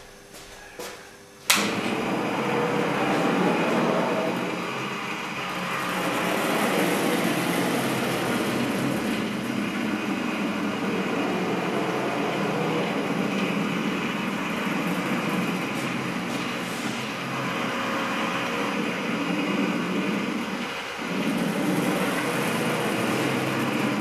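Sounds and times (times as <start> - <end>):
drawing machine running: 1.6 - 24.0.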